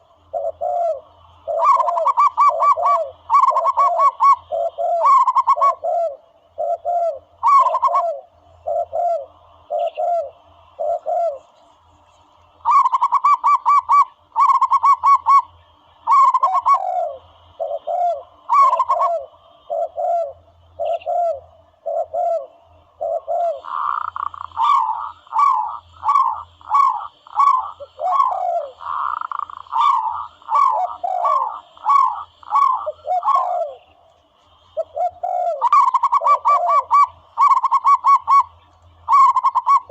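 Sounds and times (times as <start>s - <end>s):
recorded dove coos: 0.0s - 11.7s, 12.6s - 39.9s.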